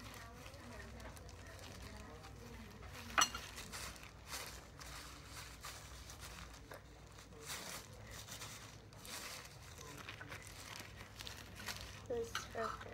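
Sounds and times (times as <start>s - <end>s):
gloved hands rustling: 0.0s - 12.9s.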